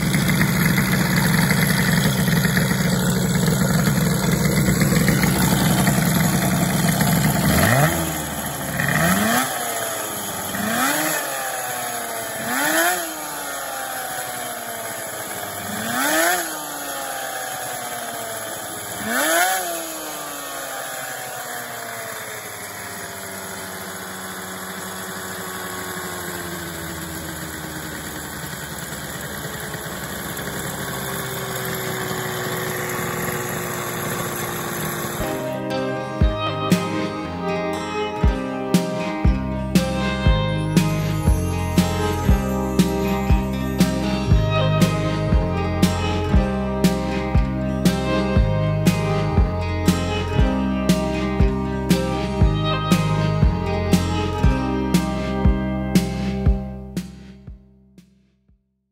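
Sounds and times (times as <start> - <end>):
moped engine idling and revving: 0.0 - 57.8.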